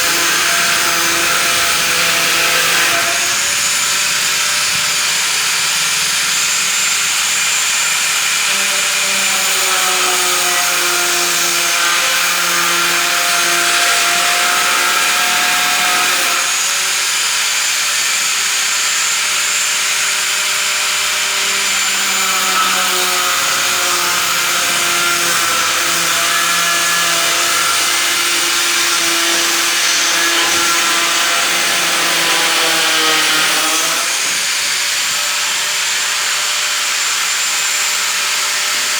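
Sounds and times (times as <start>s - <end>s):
power tool running: 0.0s - 38.9s.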